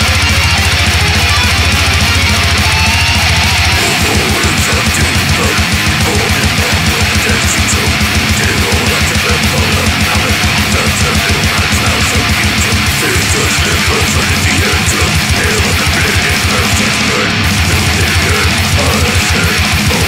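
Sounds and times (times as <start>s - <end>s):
distorted guitars: 0.0s - 20.0s.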